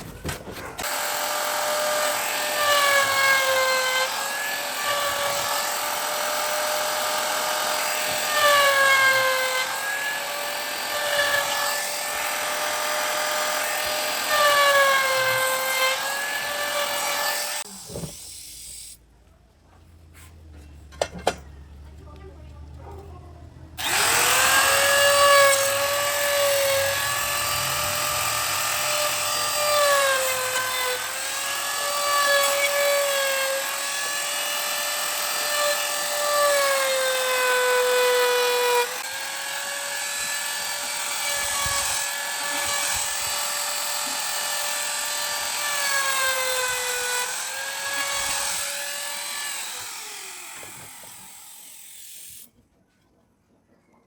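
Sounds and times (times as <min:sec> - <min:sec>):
power tool whining: 0:00.8 - 0:18.3, 0:23.8 - 0:52.5.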